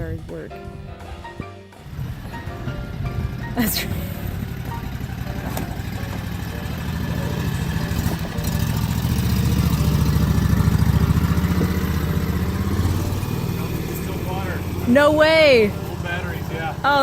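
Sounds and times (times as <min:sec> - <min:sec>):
engine idling: 0:01.8 - 0:17.0.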